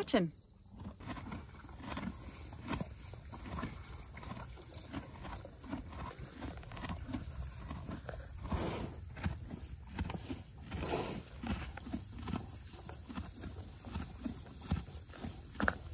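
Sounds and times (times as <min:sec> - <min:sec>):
horses chewing hay: 0:00.6 - 0:15.9.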